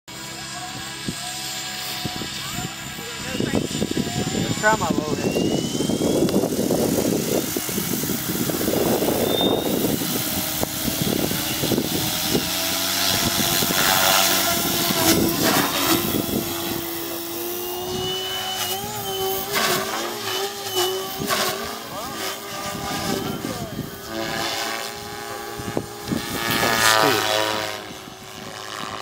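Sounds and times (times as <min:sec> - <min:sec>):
model helicopter rotor whining: 0:00.1 - 0:29.0.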